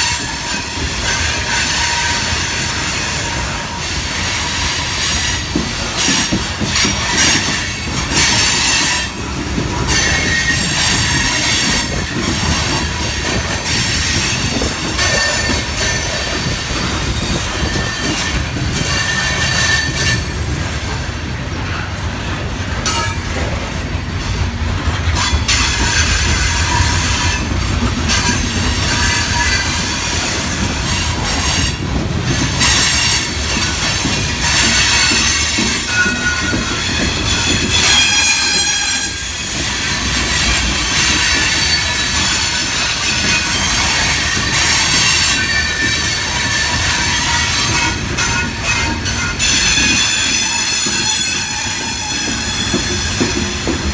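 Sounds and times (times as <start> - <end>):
train wheels squealing: 0.0 - 20.5, 25.1 - 53.9
wheels clicking over rail joints: 0.0 - 20.6, 21.7 - 53.9
train rolling rumble: 0.0 - 53.9.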